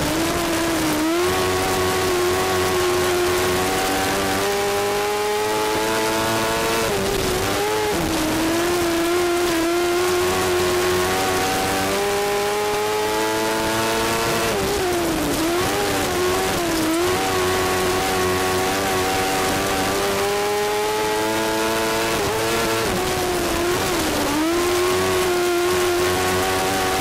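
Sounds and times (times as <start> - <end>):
racing car engine revving: 0.0 - 27.0.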